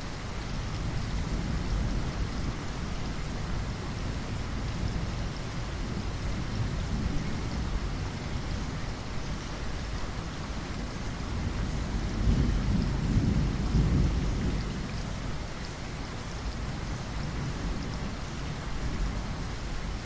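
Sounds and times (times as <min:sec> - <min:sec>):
steady rainfall: 0:00.0 - 0:20.0
low roll of thunder: 0:00.2 - 0:20.0.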